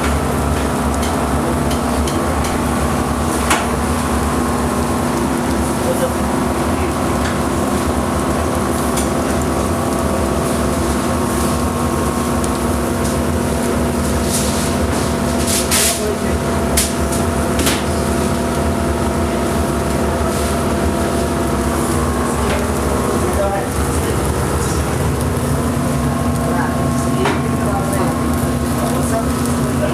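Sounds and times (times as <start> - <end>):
mechanical hum: 0.0 - 29.9.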